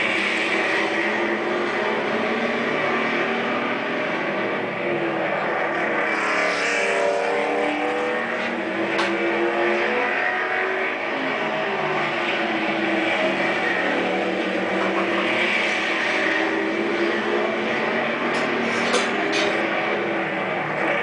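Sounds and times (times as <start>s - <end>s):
race car engines at high revs: 0.0s - 21.0s.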